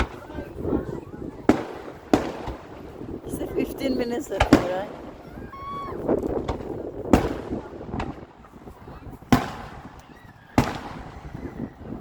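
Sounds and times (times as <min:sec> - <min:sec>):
fireworks bangs with echo: 0:00.0 - 0:12.0.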